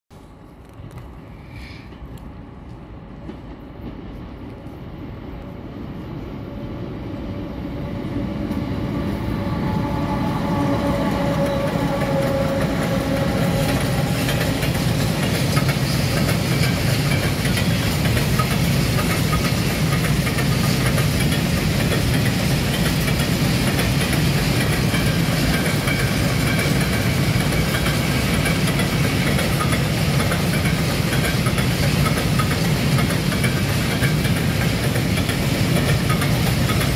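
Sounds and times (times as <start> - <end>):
freight train rolling past: 0.2 - 36.9.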